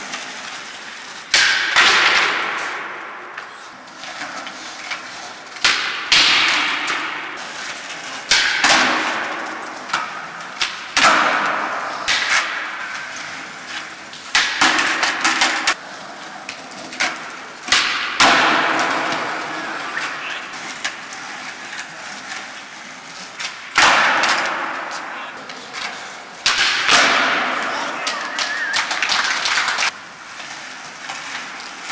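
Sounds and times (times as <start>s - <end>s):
skateboard wheels rolling: 0.0s - 31.9s
skateboard pops and clacks: 1.3s - 15.8s, 16.4s - 22.6s, 23.4s - 30.0s.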